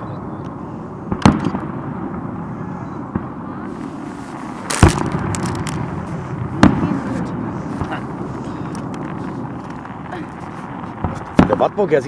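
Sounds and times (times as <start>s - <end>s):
faint firework crackles: 0.0s - 12.0s
steady background noise: 0.0s - 12.0s
firework shells bursting: 0.5s - 2.2s, 3.2s - 11.7s.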